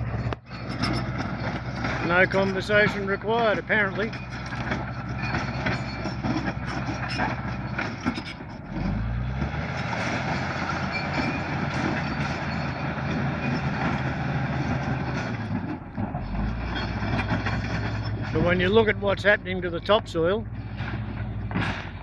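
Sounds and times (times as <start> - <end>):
bulldozer diesel engine under load: 0.0 - 22.0
knocks and clanks: 0.1 - 19.4, 20.5 - 22.0.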